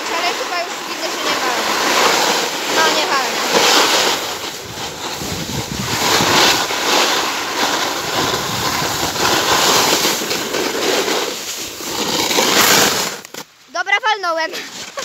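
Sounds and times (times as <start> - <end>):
snowboard scraping on snow: 0.0 - 15.0.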